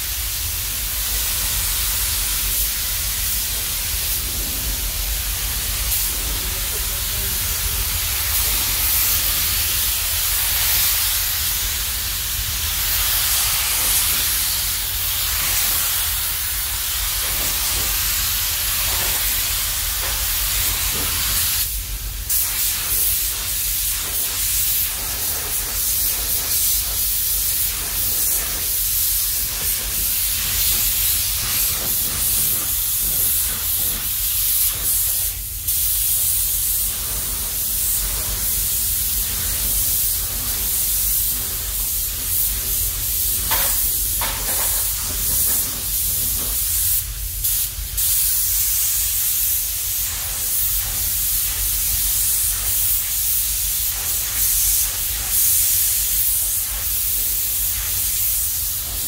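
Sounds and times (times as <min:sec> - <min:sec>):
paint spray gun hissing: 0:05.2 - 0:59.0.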